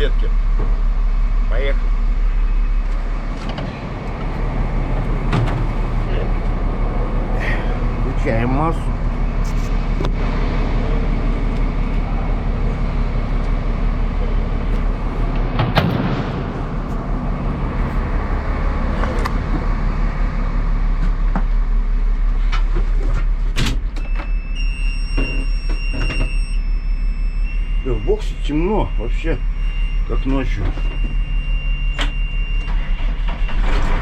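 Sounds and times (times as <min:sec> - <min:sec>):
backhoe diesel engine running: 0:00.0 - 0:34.0.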